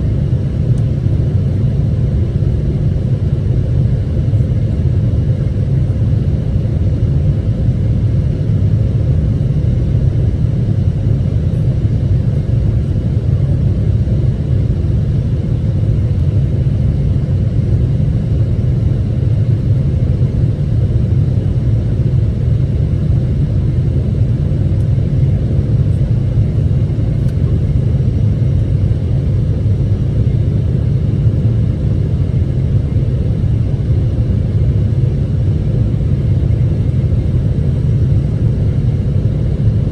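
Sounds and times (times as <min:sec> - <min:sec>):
airliner low rumble: 0:00.0 - 0:39.9
faint constant hum: 0:00.0 - 0:39.9.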